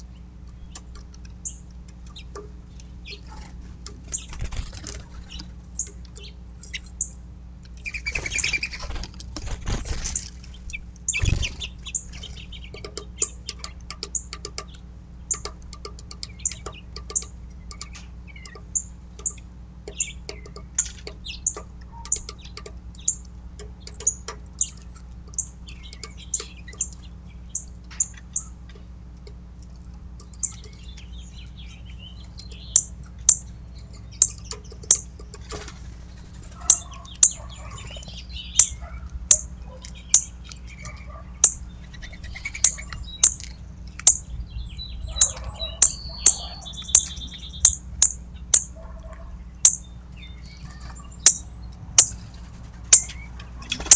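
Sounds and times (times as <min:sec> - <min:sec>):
bird trill: 0:00.0 - 0:07.2, 0:07.8 - 0:09.0, 0:10.2 - 0:28.9, 0:30.2 - 0:53.9
songbirds chipping: 0:00.0 - 0:53.9.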